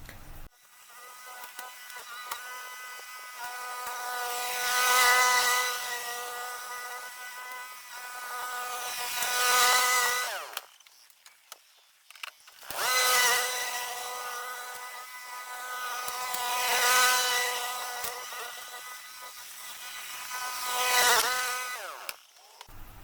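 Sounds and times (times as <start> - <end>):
string trimmer motor whining: 0.4 - 23.0.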